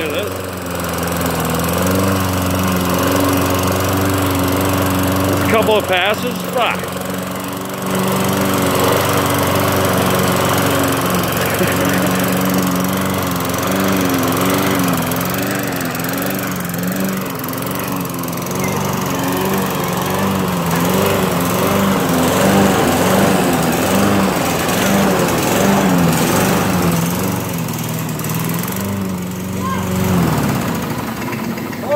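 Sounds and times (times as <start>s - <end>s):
lawn mower engine running: 0.0s - 31.9s.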